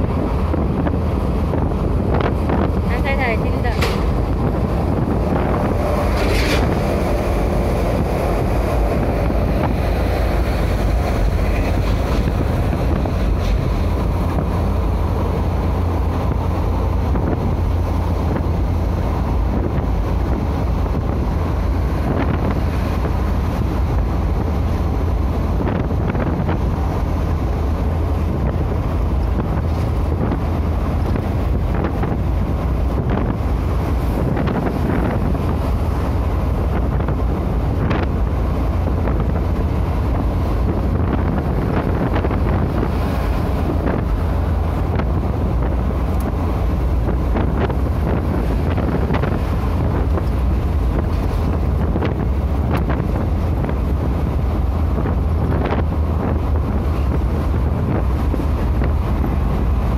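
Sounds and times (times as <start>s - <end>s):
engine and tyre rumble: 0.0s - 59.9s
wind noise: 0.0s - 59.9s.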